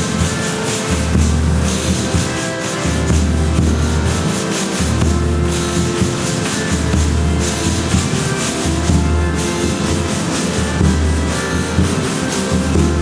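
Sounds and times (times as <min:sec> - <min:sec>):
folk ensemble playing: 0:00.0 - 0:13.0
steady percussion: 0:00.0 - 0:13.0
string instruments: 0:00.0 - 0:13.0.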